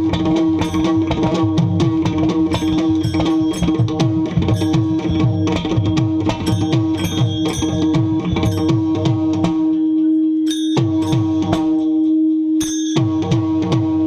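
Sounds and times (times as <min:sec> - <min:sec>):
mridang drumming: 0:00.0 - 0:14.0.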